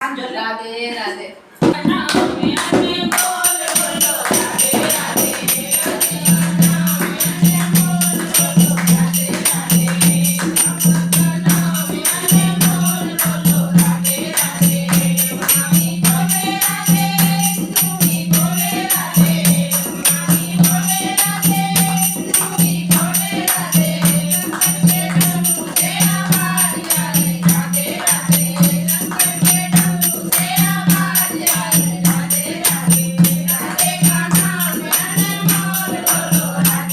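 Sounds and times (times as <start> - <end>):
group of voices singing: 1.6 - 36.9
hand drum beat: 1.6 - 36.9
jingling percussion: 1.8 - 36.9.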